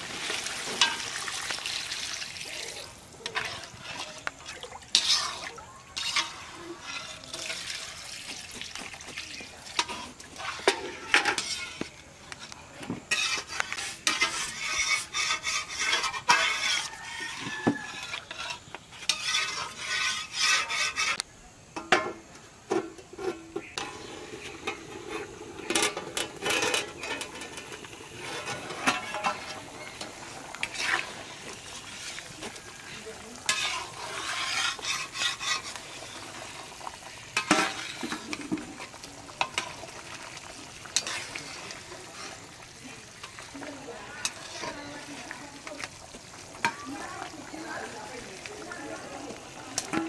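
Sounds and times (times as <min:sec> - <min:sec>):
frying sizzle: 0:00.0 - 0:50.0
metal spoon scraping a pot: 0:02.6 - 0:21.2, 0:22.7 - 0:50.0.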